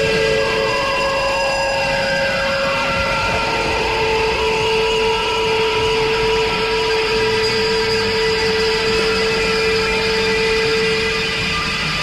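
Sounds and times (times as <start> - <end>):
hiss and rumble: 0.0 - 10.4
droning noise music: 0.0 - 12.0.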